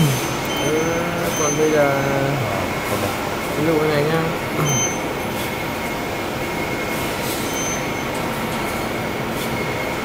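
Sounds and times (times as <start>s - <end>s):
thin high whine: 0.0s - 3.7s, 4.5s - 10.0s
machinery hum and hiss: 0.0s - 10.0s.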